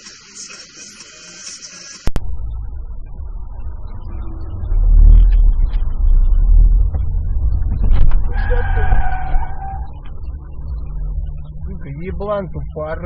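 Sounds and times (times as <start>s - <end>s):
car engine and road rumble: 2.1s - 13.0s.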